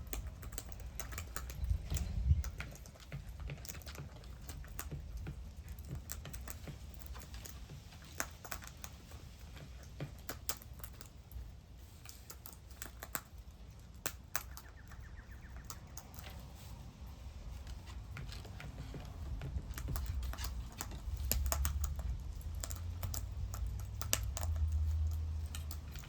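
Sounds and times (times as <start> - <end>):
birds pecking at feeder: 0.0 - 26.0
low steady rumble: 0.0 - 26.0.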